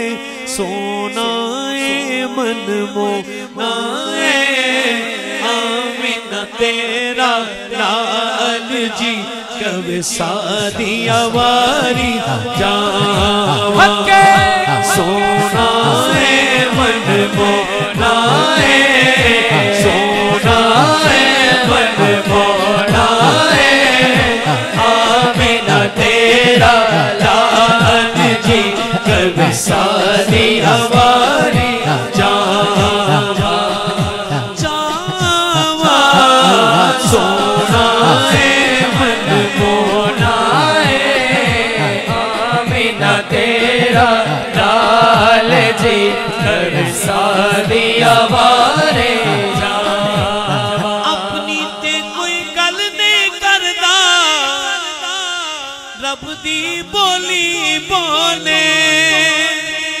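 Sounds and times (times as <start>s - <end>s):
man singing through a microphone: 0.0s - 60.0s.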